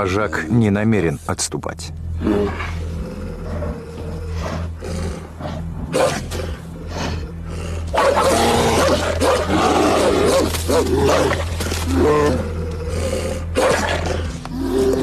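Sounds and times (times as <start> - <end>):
bear growling: 0.0 - 1.2, 2.1 - 15.0
wolf growling: 2.2 - 15.0.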